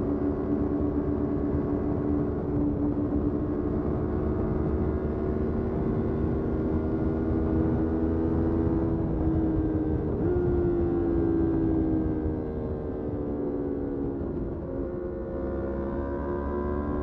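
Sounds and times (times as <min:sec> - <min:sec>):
wind noise: 0:00.0 - 0:15.1
road rumble: 0:00.0 - 0:17.0.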